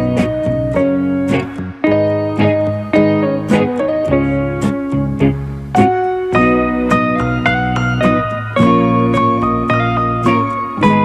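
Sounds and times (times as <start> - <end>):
plucked notes over bass: 0.0 - 11.0.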